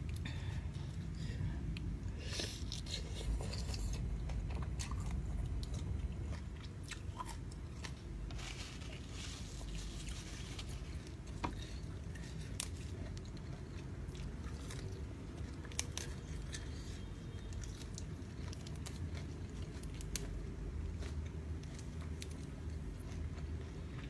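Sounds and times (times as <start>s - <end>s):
person chewing with wet crunching: 0.0s - 24.0s
steady low hum: 0.0s - 24.0s.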